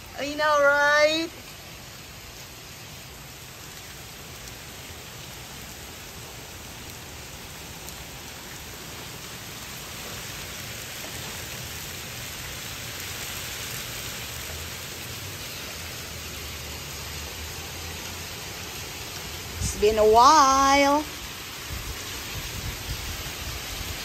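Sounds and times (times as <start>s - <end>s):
hail pattering on concrete: 0.2s - 24.0s.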